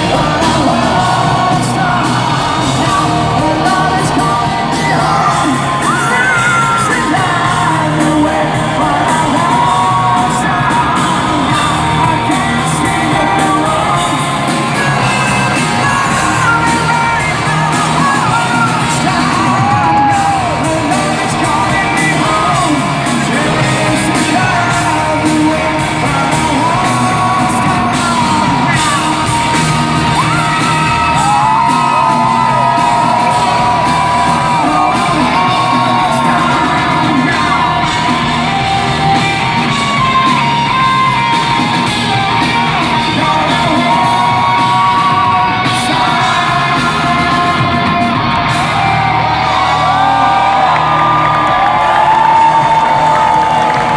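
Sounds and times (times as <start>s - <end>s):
man singing: 0.0s - 50.7s
hard rock band playing live: 0.0s - 53.9s.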